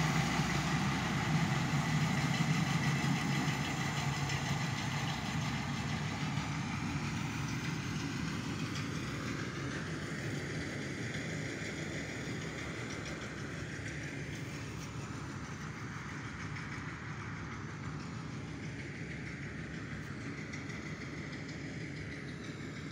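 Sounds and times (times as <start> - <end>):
tractor engine idling: 0.0 - 22.9.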